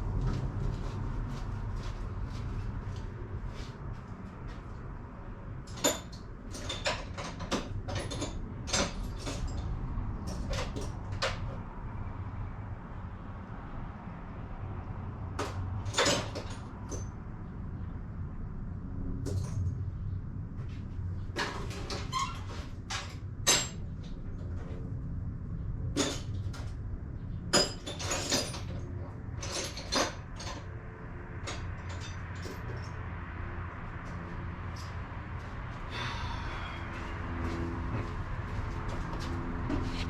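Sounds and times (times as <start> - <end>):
steady low hum: 0.0 - 16.0, 16.6 - 21.9, 22.5 - 40.0.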